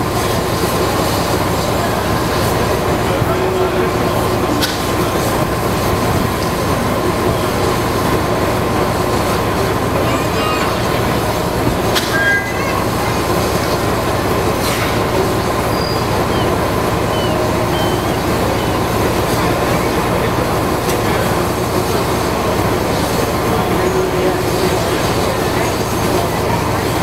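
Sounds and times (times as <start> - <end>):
railway turntable rumble and hiss: 0.0 - 27.0.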